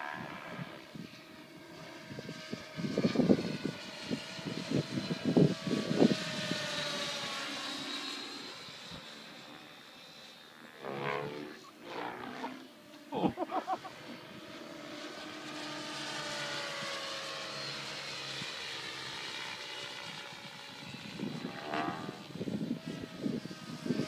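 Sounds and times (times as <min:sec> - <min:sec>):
distant aircraft engine whine: 0:00.0 - 0:24.0.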